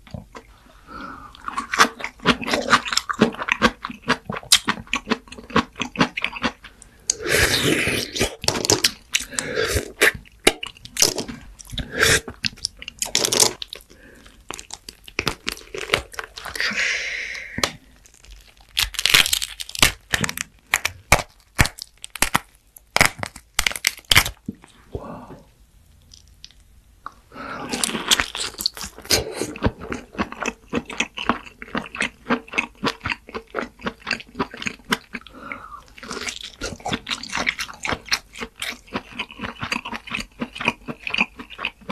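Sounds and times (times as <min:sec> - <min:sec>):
crunchy eating: 0:00.1 - 0:25.1, 0:27.4 - 0:41.9.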